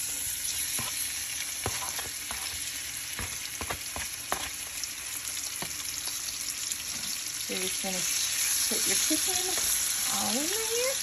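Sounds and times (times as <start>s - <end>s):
chicken sizzling in grease: 0.0s - 11.0s.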